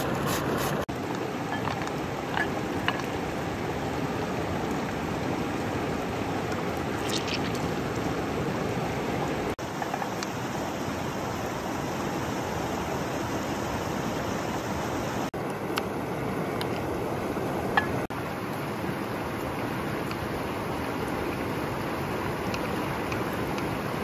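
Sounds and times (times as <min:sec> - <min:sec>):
river stream rushing: 0:00.9 - 0:24.0.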